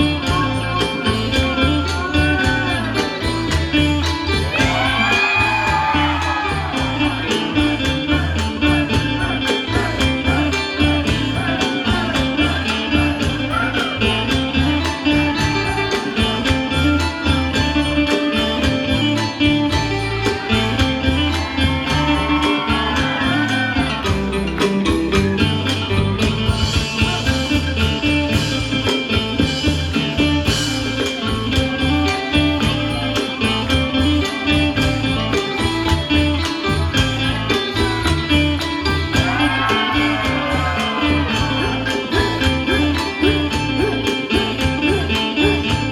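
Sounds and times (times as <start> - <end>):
fast drum and percussion beat: 0.0 - 45.9
folk instruments: 0.0 - 45.9
wooden log xylophone: 0.0 - 45.9.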